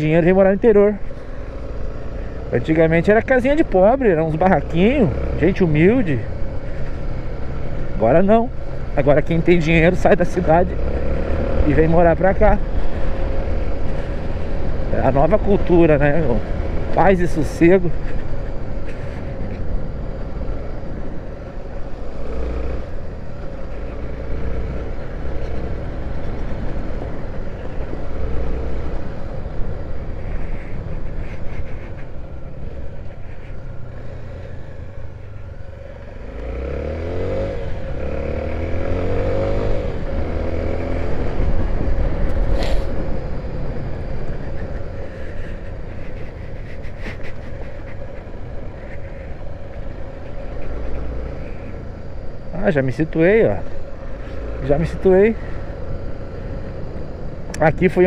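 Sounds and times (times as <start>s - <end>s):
road and wind noise: 0.0s - 58.0s
motorcycle engine revving: 1.0s - 58.0s.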